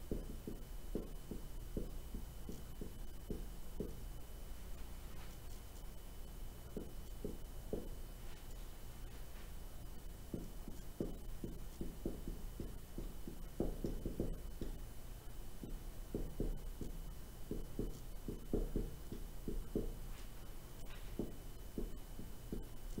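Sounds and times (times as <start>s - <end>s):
marker writing on whiteboard: 0.0s - 4.0s, 6.6s - 23.0s
steady low hum: 0.0s - 23.0s.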